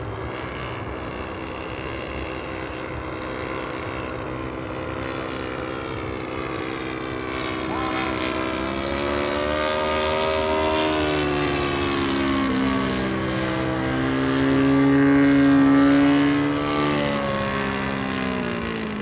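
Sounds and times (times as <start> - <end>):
model aircraft engine droning: 0.0 - 19.0.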